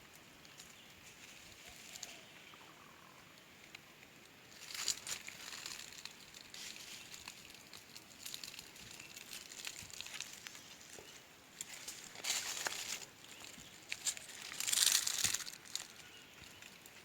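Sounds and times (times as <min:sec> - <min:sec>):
dry leaves rustling and crackling: 0:00.0 - 0:02.3, 0:04.5 - 0:17.0.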